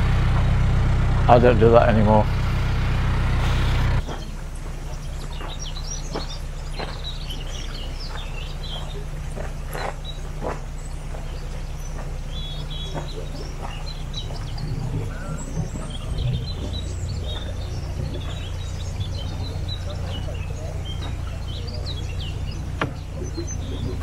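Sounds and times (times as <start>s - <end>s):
boat engine idling: 0.0s - 24.0s
birds chirping and calling: 1.3s - 24.0s.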